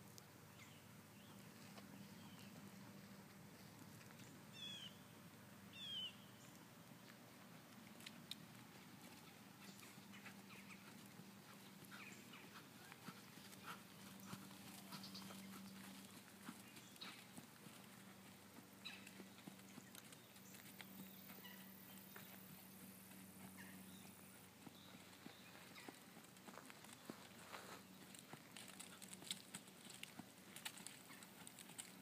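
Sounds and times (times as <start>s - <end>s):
faint low hum: 0.0s - 32.0s
pony hooves trotting on sand: 1.1s - 5.4s, 6.4s - 32.0s.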